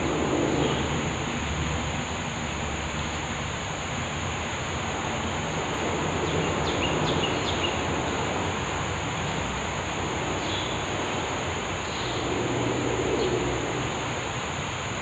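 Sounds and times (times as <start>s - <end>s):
high insect drone: 0.0s - 15.0s
steady rushing water: 0.0s - 15.0s.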